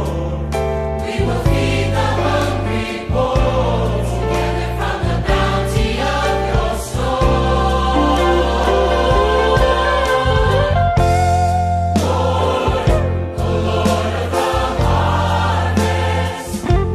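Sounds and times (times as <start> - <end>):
choir singing a hymn: 0.0 - 16.9
instrumental accompaniment: 0.0 - 16.9.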